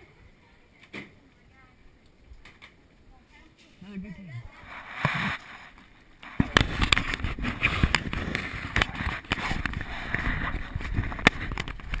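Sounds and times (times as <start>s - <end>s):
rustling: 2.0s - 12.0s.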